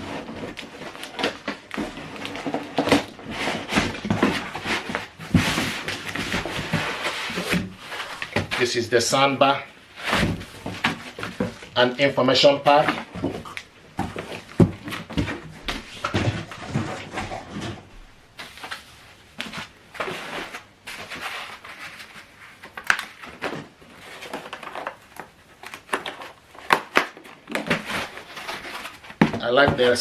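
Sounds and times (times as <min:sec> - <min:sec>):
cardboard and paper rustling: 0:00.0 - 0:30.0
sharp knocks and scrapes: 0:00.0 - 0:30.0.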